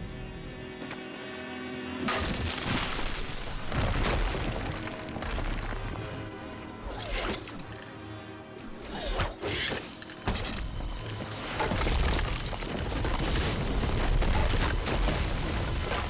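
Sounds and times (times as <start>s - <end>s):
film score music: 0.0s - 16.0s.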